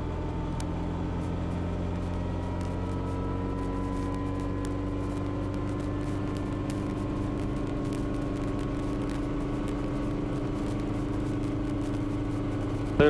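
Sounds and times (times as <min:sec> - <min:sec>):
helicopter engine and rotors running: 0:00.0 - 0:13.0.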